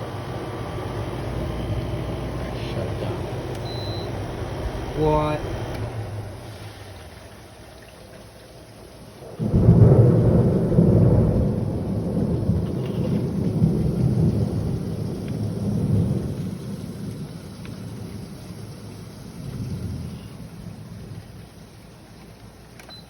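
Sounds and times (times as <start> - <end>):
thunder cracking and rumbling: 0.0 - 21.8
heavy rain: 0.0 - 22.9.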